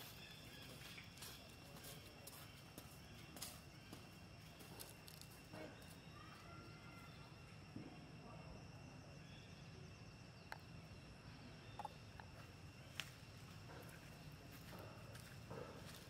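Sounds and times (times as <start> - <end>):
faint high insect hum: 0.0 - 16.0.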